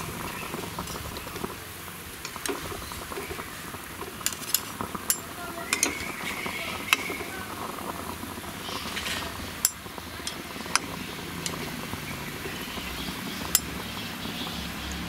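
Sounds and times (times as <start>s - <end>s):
hot oil hissing: 0.0s - 15.0s.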